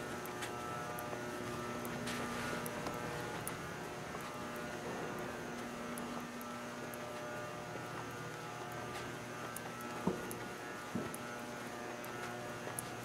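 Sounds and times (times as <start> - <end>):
electrical hum and buzz: 0.0 - 13.0.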